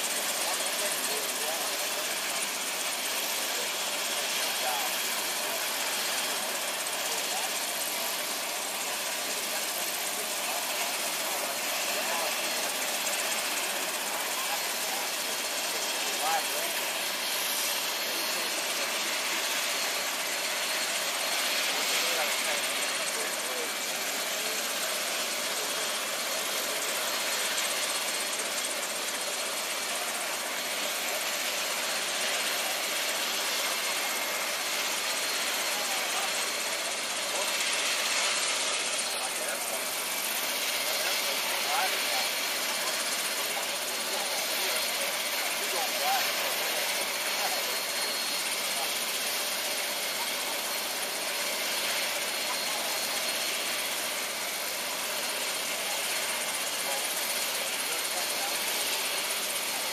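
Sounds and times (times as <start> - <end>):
engines idling: 0.0 - 59.9
murmur of distant voices: 0.0 - 59.9.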